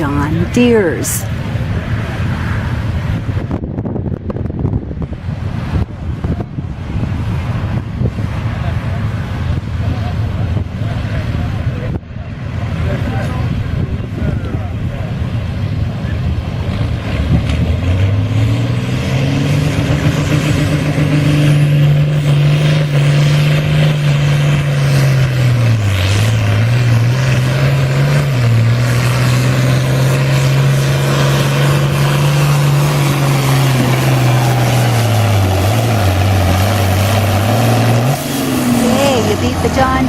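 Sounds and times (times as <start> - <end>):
tractor engine under heavy load: 0.0 - 40.0.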